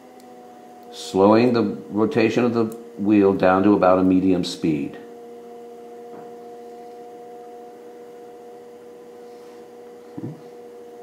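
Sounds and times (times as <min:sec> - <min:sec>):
pottery wheel motor humming: 0:00.0 - 0:11.0.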